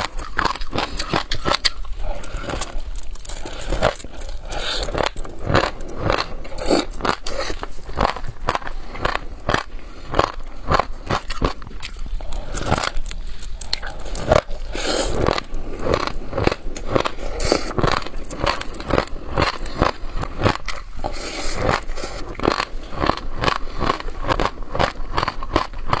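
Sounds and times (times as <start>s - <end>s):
seeds being chewed: 0.0s - 26.0s.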